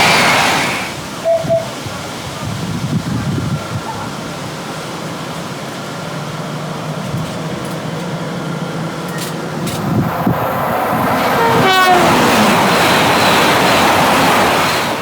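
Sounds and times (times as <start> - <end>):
train approaching with hum: 0.0 - 15.0.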